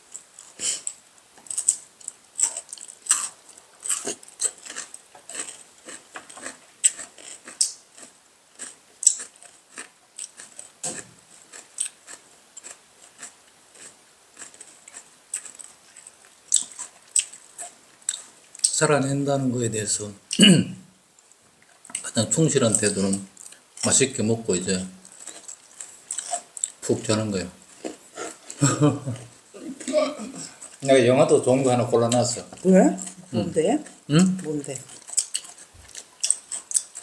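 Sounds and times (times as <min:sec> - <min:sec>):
people chewing food: 0:00.0 - 0:18.8, 0:19.6 - 0:37.0.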